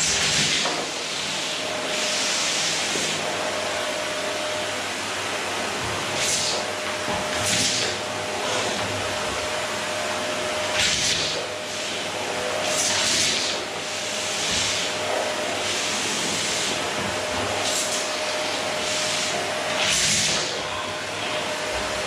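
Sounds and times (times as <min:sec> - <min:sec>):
vacuum cleaner running: 0:00.0 - 0:22.0
vacuum nozzle on wooden floor: 0:00.0 - 0:22.0.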